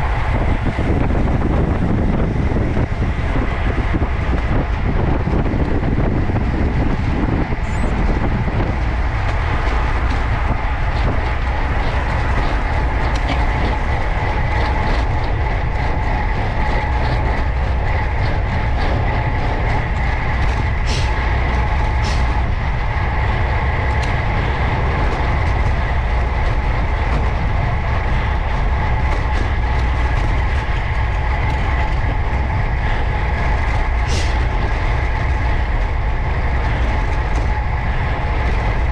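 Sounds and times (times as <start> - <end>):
bicycle tyres and drivetrain hum: 0.0 - 38.9
wind rumbling on microphone: 0.0 - 38.9.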